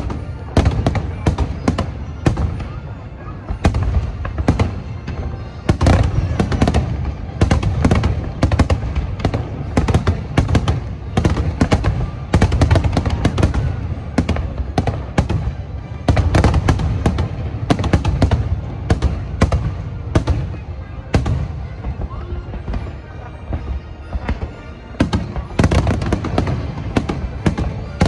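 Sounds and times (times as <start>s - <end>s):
fireworks booming and cracking: 0.0s - 28.0s.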